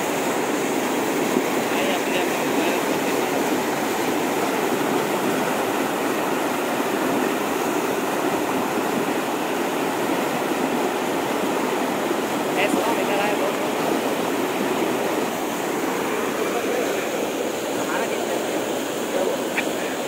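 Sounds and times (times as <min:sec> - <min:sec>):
river rushing through rapids: 0:00.0 - 0:20.0.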